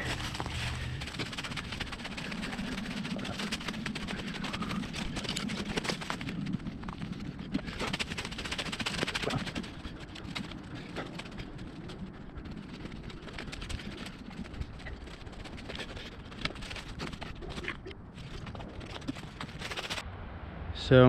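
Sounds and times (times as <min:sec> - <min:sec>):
footsteps through undergrowth: 0:00.0 - 0:20.0.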